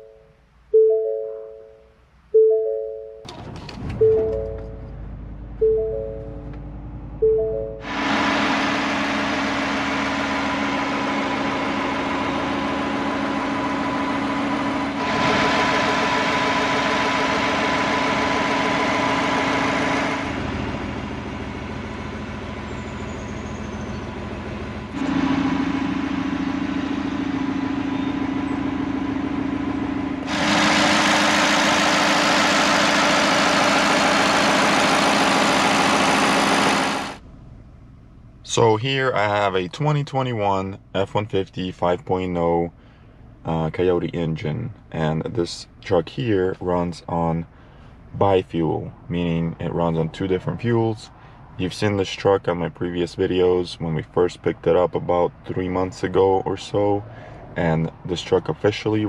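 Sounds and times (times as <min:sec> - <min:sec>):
truck engine idling: 0:03.3 - 0:40.0, 0:40.8 - 0:52.1.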